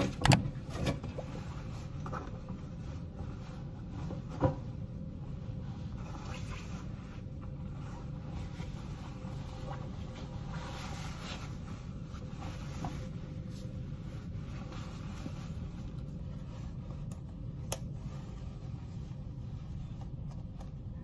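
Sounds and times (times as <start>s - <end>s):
lab coat rustling: 0.0s - 21.0s
low room hum: 0.0s - 21.0s.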